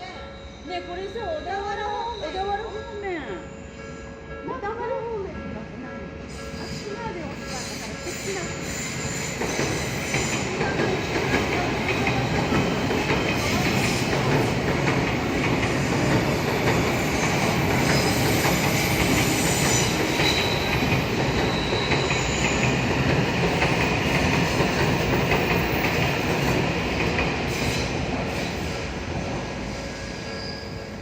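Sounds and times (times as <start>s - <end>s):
electric train rumbling on rails: 0.0s - 31.0s.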